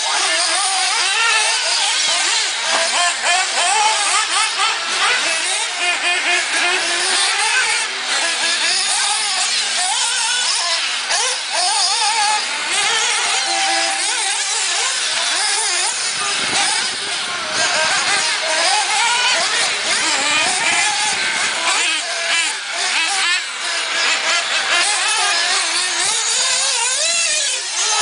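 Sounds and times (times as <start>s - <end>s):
radio-controlled buggy motors whining: 0.0s - 28.0s.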